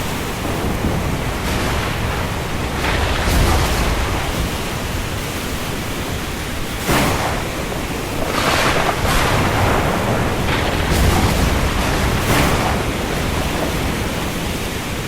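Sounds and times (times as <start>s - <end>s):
rain falling on sea: 0.0s - 15.0s
waves: 0.0s - 15.0s.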